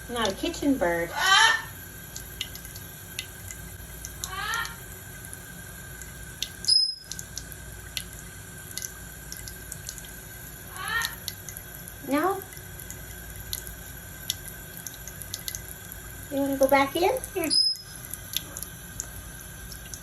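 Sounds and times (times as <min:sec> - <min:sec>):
water drips and splashes: 0:00.0 - 0:01.1, 0:01.8 - 0:20.0
water running from tap into sink: 0:00.0 - 0:01.1, 0:01.7 - 0:20.0.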